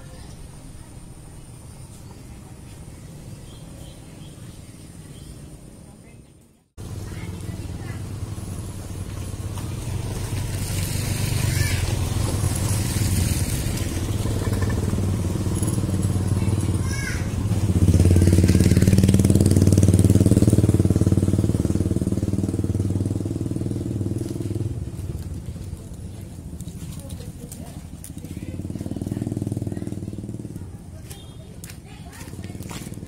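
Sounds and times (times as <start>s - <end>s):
small motorcycles passing: 0.0s - 33.0s.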